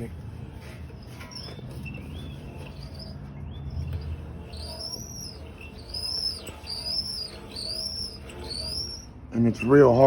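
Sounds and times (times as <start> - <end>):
motor shaft grinding squeal: 0.0 - 10.0.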